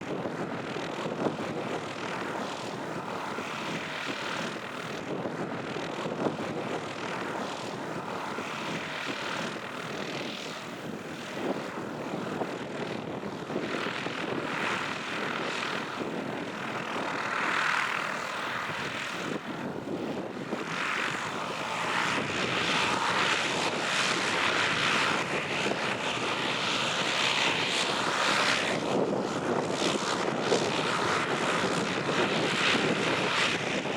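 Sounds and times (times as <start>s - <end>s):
propeller plane engine running: 0.0s - 33.9s.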